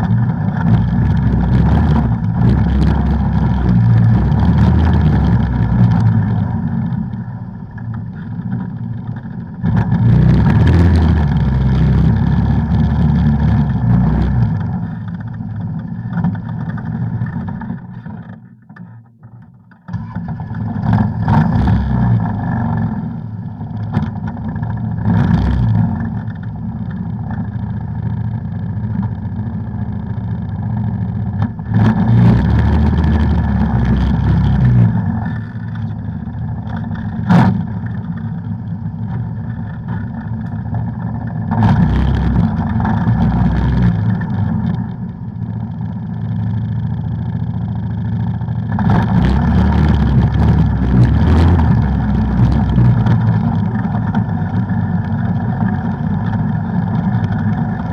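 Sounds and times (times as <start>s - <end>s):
off-road vehicle engine revving: 0.0s - 8.6s, 9.2s - 15.2s, 20.0s - 26.6s, 30.5s - 46.7s, 47.3s - 57.9s.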